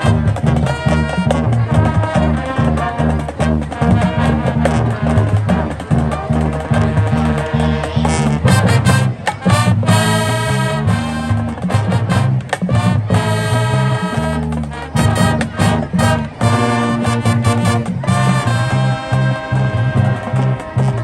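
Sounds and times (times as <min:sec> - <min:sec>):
brass chords: 0:00.0 - 0:21.0
drumline beat: 0:00.0 - 0:21.0.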